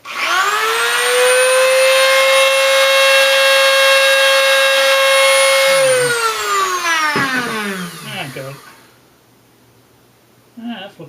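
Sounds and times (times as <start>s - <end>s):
rotary tool high-pitched whine: 0.0s - 9.0s.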